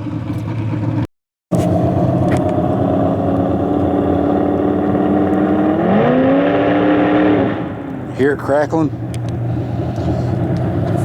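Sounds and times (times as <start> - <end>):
truck engine crackling and revving: 0.0 - 11.0.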